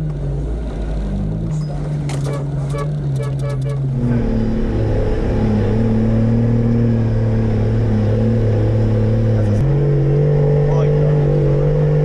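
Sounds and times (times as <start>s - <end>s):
vehicle engine from inside cab: 0.0s - 12.0s.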